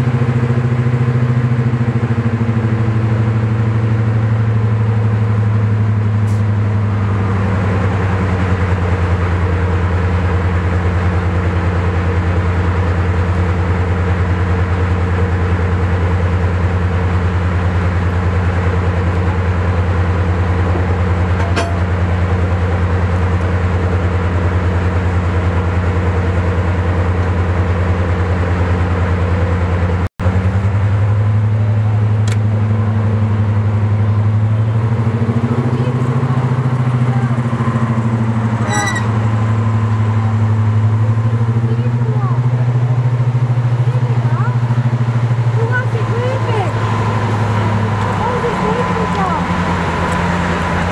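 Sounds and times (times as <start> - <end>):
diesel locomotive engine idling: 0.0 - 50.9.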